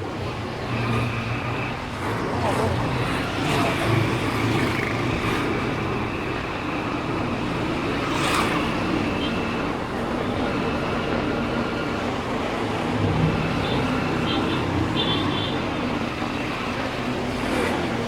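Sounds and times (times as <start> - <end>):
wind and tyre noise: 0.0 - 18.0.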